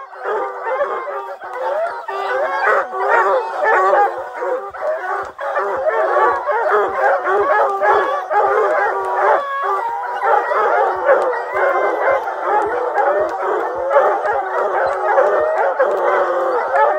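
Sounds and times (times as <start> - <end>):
hounds bawling and barking: 0.0 - 16.9.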